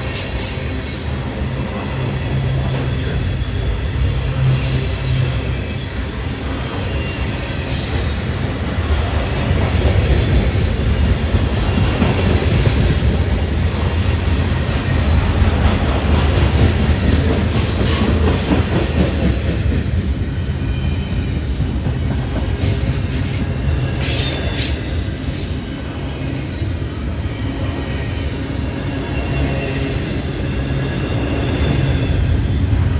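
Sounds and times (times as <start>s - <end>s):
train railcars rumbling: 0.0s - 32.9s.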